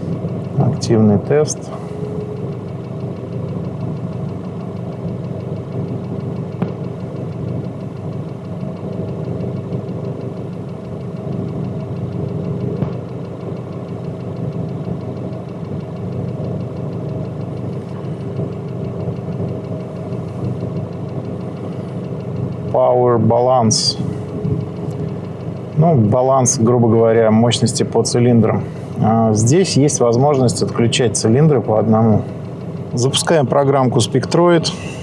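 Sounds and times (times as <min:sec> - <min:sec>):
diesel engine idling with clatter: 0:00.0 - 0:35.0.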